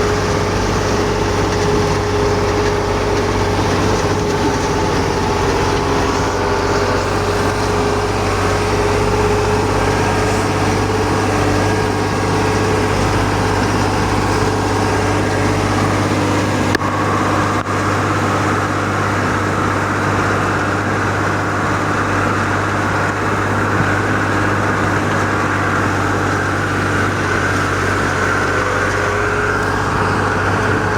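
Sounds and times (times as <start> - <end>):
engine humming: 0.0 - 30.9.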